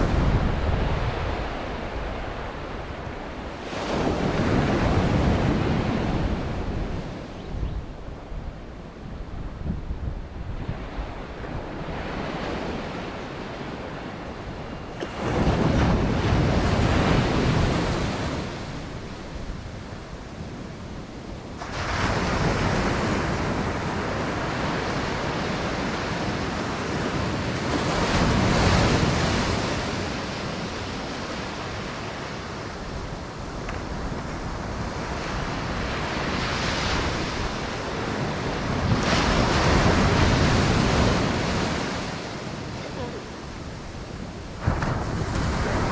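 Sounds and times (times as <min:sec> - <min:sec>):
ocean surf breaking: 0:00.0 - 0:07.4, 0:10.2 - 0:45.9
wind buffeting microphone: 0:00.0 - 0:45.9.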